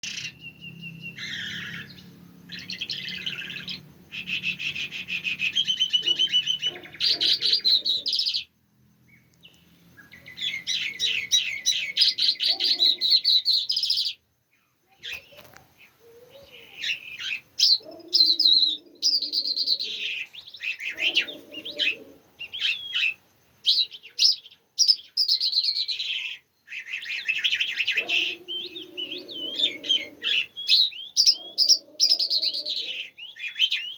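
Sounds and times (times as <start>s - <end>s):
songbird trilling and chirping: 0.0s - 33.9s.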